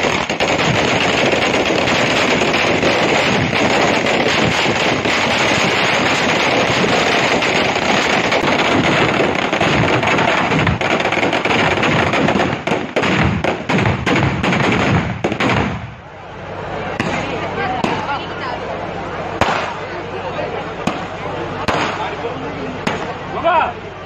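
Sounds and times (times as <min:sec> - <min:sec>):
firecrackers bursting: 0:00.0 - 0:23.4.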